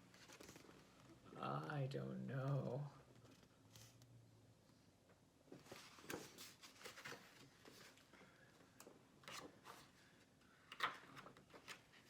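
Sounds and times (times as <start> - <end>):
faint rustles and soft clicks: 0.0 - 1.5, 2.3 - 12.0.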